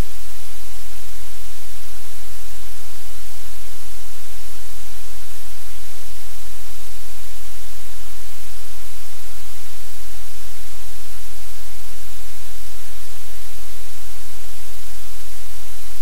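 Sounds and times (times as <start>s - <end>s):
loud static hiss: 0.0s - 16.0s.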